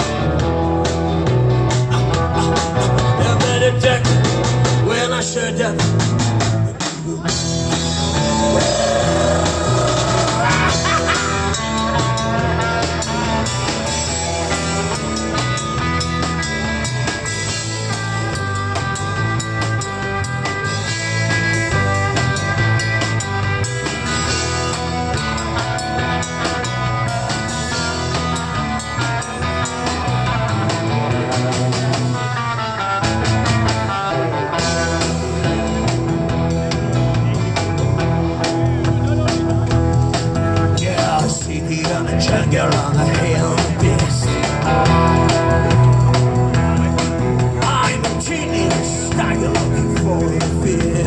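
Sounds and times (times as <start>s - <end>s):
instrumental rock music: 0.0s - 51.0s.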